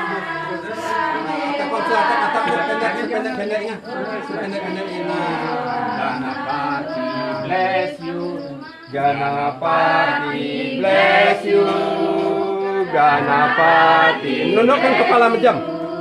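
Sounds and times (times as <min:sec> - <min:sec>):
voices chanting together: 0:00.0 - 0:16.0.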